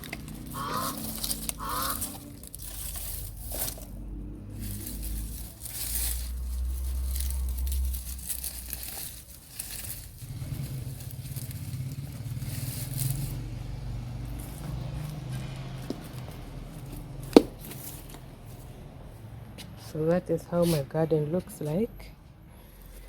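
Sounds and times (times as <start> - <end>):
plants rustling and crinkling: 0.0 - 21.9
low steady rumble: 0.0 - 23.0.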